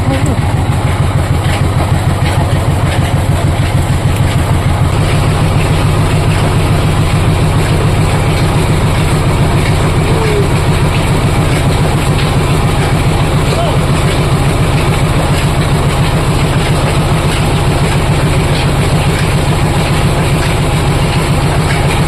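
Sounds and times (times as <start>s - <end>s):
oil press running: 0.0s - 22.0s.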